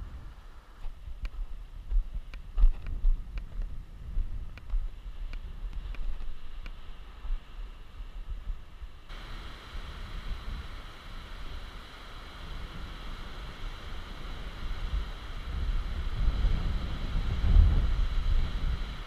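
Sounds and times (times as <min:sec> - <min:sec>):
steady hiss: 0:00.0 - 0:19.0
wind buffeting microphone: 0:00.0 - 0:19.0.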